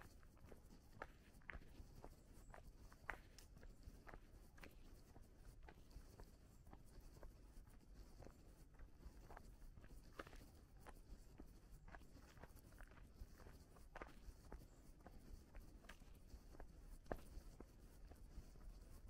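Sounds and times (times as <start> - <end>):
faint footsteps walking: 0.0 - 19.0.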